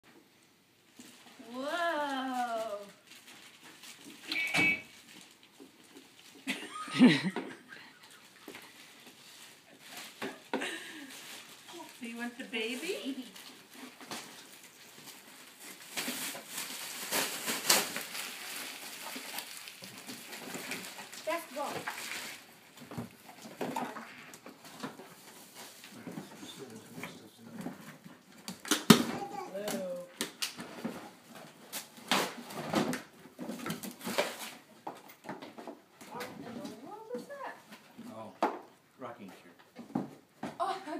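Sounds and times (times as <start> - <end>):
gift wrap crinkling and rustling: 0.9 - 38.3.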